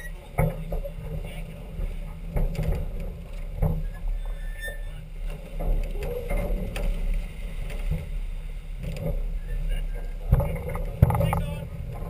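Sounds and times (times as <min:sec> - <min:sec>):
sail flapping: 0:00.0 - 0:12.0
wind and water rushing: 0:00.0 - 0:12.0.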